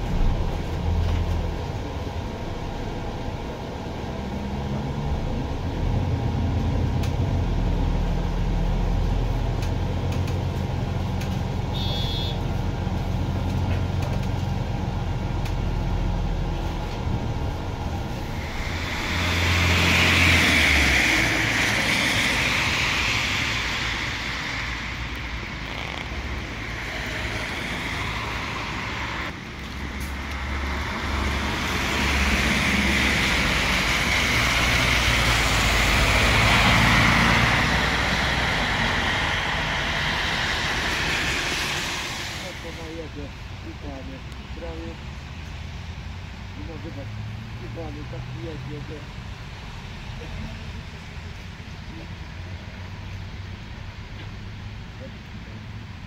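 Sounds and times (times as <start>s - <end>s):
bus engine drone: 0.0s - 56.0s
traffic on wet road: 0.0s - 56.0s.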